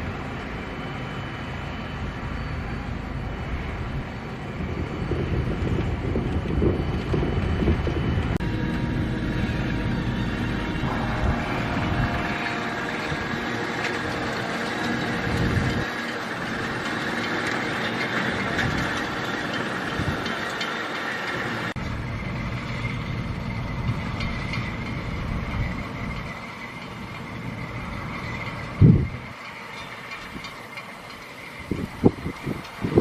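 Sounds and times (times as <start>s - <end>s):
heavy farm machinery rumbling: 0.0s - 33.0s
high steady whine: 0.0s - 33.0s.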